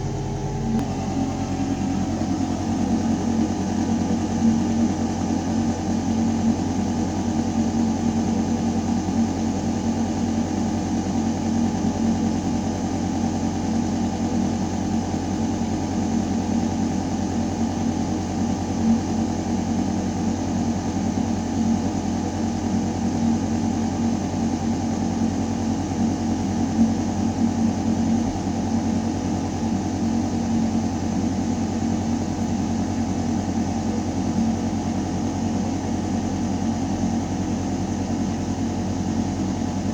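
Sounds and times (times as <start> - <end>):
ventilation system hum: 0.0 - 39.9.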